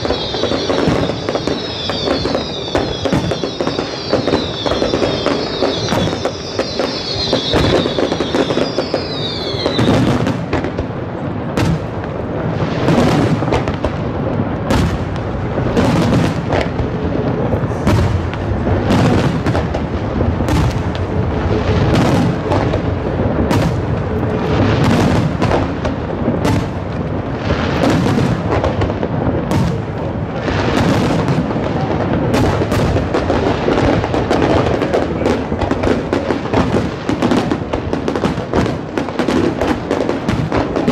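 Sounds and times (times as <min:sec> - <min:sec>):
fireworks booming and crackling: 0:00.0 - 0:40.9
fireworks whistling: 0:00.0 - 0:40.9.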